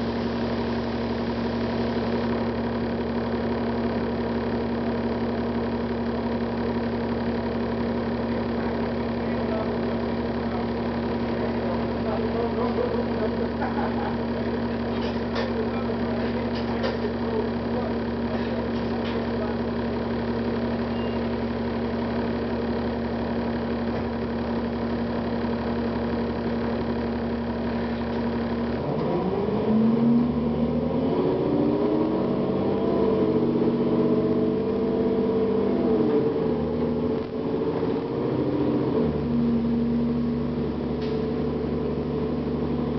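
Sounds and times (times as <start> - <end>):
bus diesel engine idling: 0.0 - 42.9.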